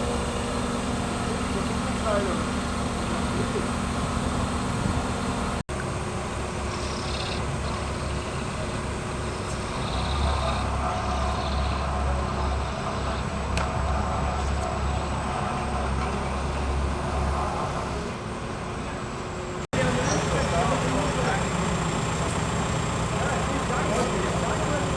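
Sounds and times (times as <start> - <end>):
diesel engine rumbling: 0.0 - 24.9.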